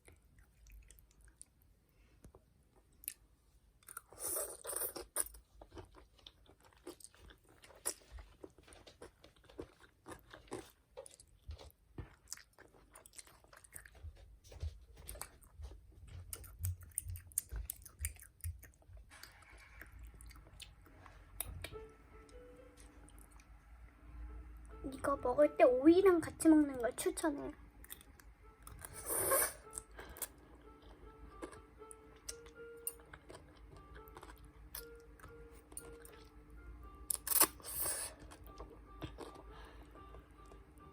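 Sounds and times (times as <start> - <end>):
child chewing crunchy food: 0.0 - 21.9, 26.9 - 36.3, 37.0 - 40.9.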